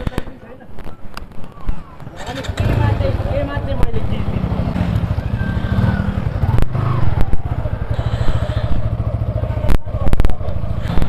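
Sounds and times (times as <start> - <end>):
motorcycle engine running: 2.1 - 11.0.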